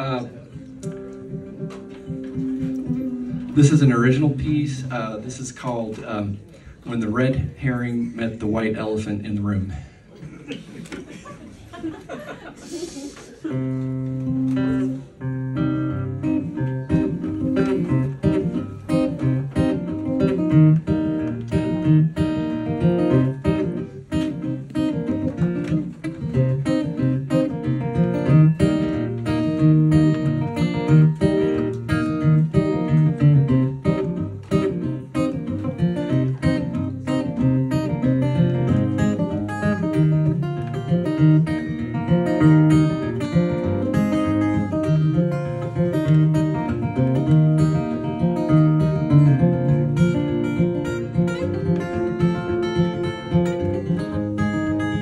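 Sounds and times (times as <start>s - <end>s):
acoustic guitar tune: 0.0s - 9.8s, 12.6s - 55.0s.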